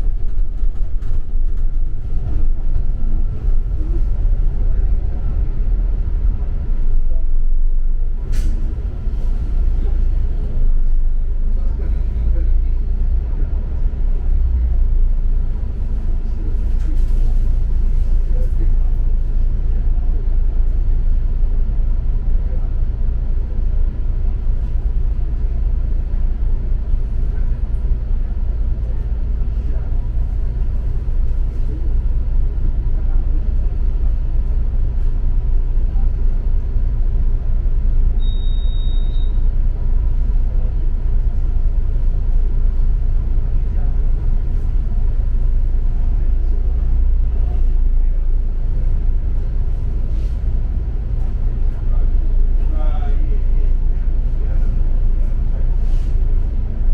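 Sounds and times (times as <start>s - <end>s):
bus engine and road noise: 0.0s - 56.9s.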